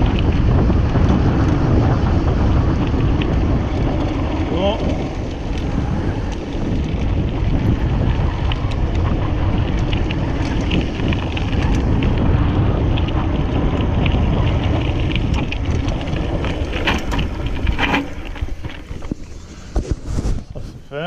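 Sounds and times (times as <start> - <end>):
bike clicks and rattles: 0.0 - 21.0
tyres rumbling on road: 0.0 - 21.0
wind buffeting microphone: 0.0 - 21.0.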